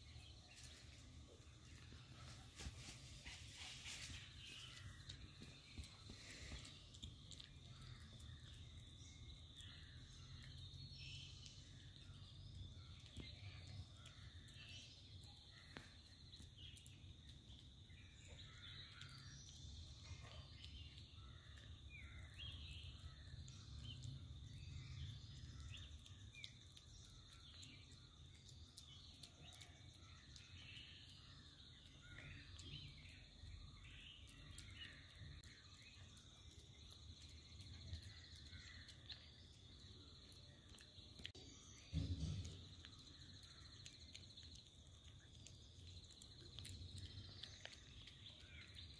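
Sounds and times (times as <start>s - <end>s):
bird chirps: 0.0s - 48.9s.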